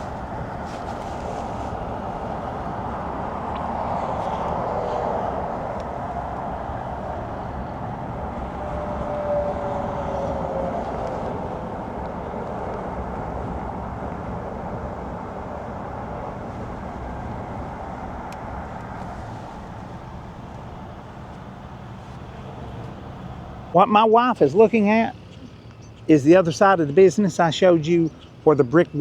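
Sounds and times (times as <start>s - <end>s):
vehicle road and engine noise: 0.0s - 29.0s.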